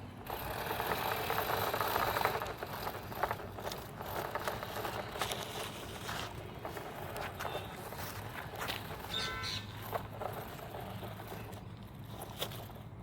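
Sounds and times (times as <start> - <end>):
plastic wheels rattling and scraping: 0.0 - 13.0
toy car electric motor whirring: 0.0 - 13.0.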